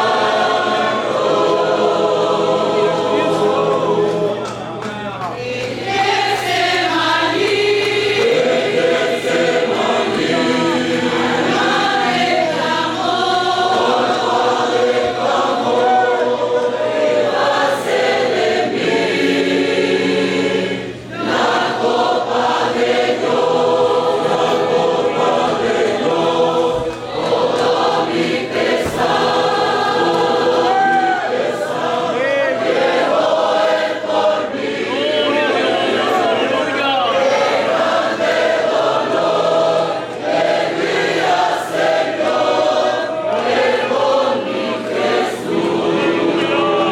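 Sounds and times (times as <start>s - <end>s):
choir singing a hymn: 0.0s - 4.7s, 5.3s - 46.9s.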